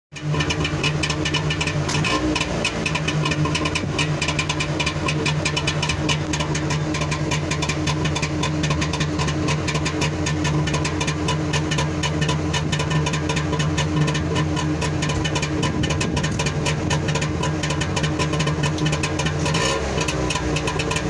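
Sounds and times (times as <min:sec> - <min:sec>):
two-stroke engine idling: 0:00.1 - 0:21.0.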